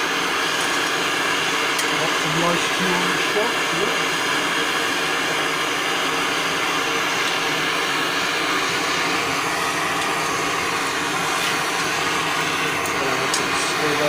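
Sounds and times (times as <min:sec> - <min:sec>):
gas burner hissing: 0:00.0 - 0:14.0.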